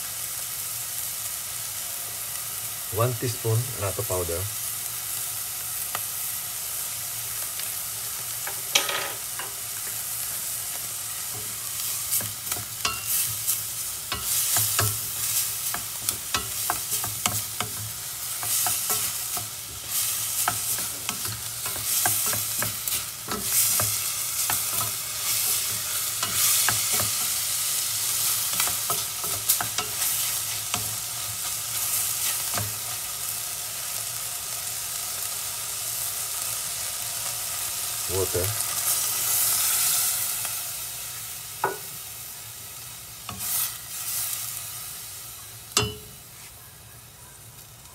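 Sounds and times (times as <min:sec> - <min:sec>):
meat sizzling in oil: 0:00.0 - 0:47.9.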